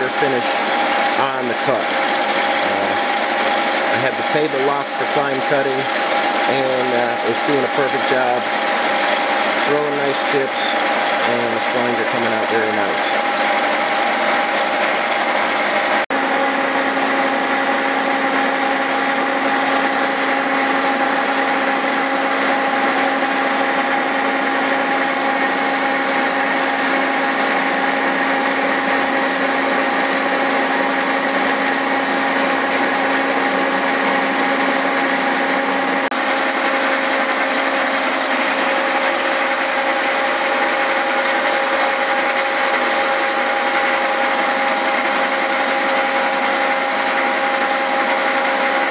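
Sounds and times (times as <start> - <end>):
milling machine cutting steel: 0.0 - 48.9.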